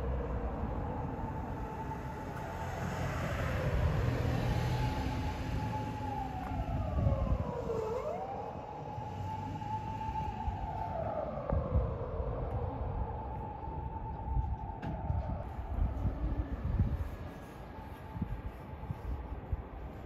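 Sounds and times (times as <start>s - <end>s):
emergency vehicle siren wailing: 0.0s - 20.0s
low traffic rumble: 0.0s - 20.0s.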